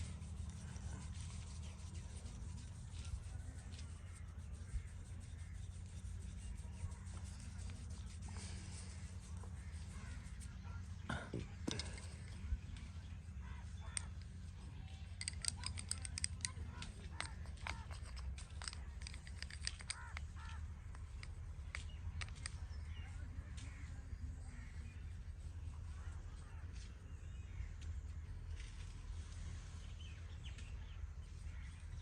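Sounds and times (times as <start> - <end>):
birds calling: 0.0 - 32.0
steady low rumble: 0.0 - 32.0.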